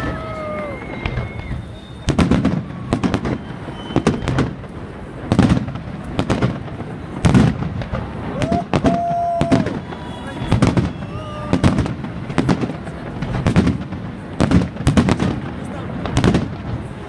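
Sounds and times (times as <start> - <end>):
fireworks bursting with rumbling echo: 0.0 - 17.0.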